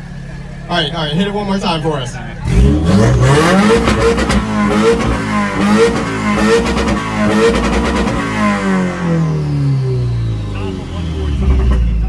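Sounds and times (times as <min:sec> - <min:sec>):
exhaust crackle: 0:00.0 - 0:12.0
car engine revving hard: 0:01.7 - 0:12.0.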